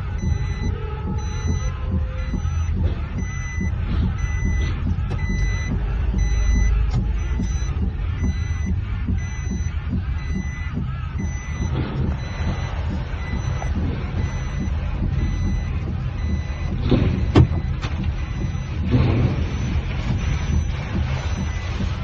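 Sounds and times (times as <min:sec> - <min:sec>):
electronic warning beep: 0:00.0 - 0:22.0
steady low rumble: 0:00.0 - 0:22.0.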